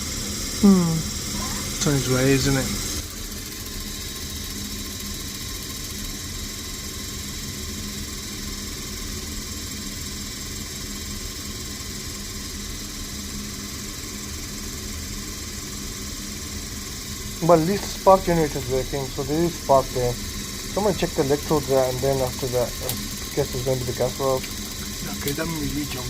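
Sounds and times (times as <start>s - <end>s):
boiler fan humming: 0.0s - 26.0s.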